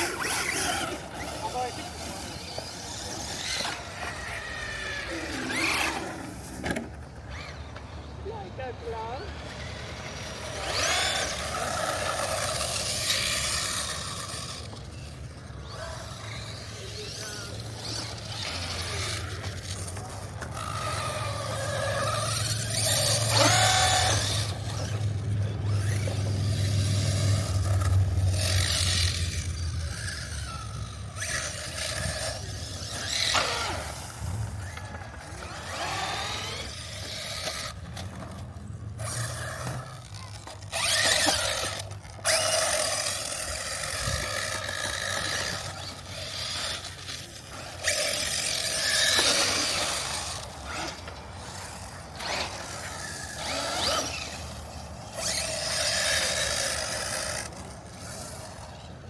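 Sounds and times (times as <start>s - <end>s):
electric motor whining: 0.0s - 59.0s.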